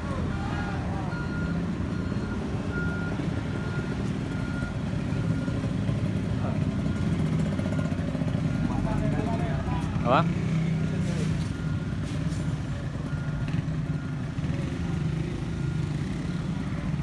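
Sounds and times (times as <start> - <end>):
heavy vehicle engine running: 0.0 - 17.0
reversing alarm beeps: 0.2 - 9.6, 10.6 - 17.0.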